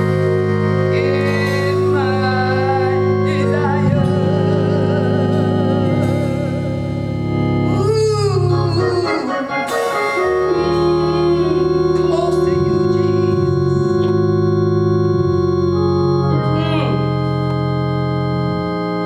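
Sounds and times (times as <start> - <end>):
organ playing held chords: 0.0 - 19.0.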